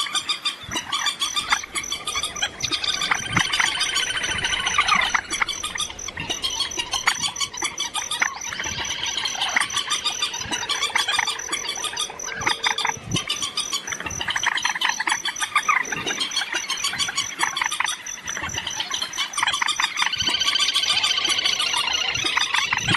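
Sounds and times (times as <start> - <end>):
recorded bird calls chirping: 0.0 - 22.9.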